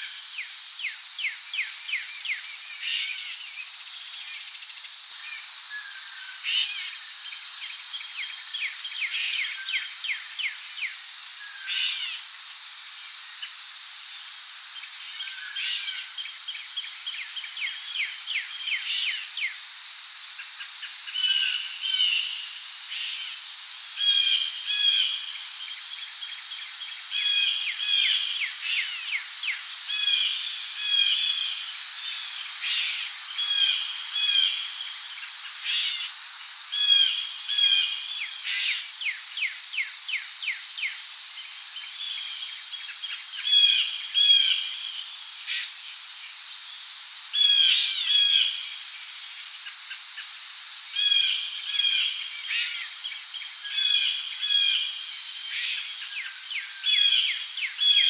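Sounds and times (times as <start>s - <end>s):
crickets chorus: 0.0s - 58.0s.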